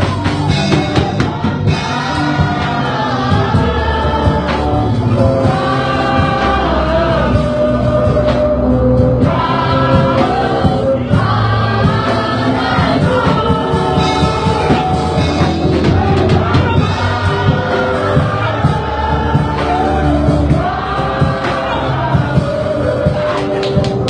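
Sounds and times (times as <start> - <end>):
bass line: 0.0 - 24.0
congregation singing worship song: 0.0 - 24.0
driving drum beat: 0.0 - 24.0.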